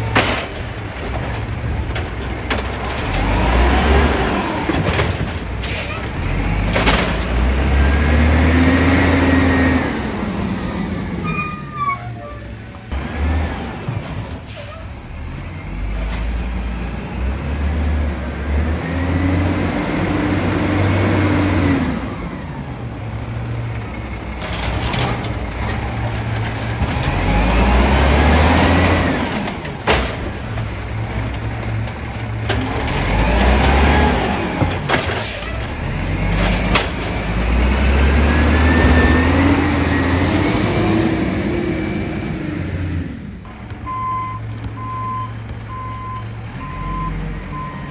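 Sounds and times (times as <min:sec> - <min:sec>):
garbage truck engine revving: 0:00.0 - 0:47.9.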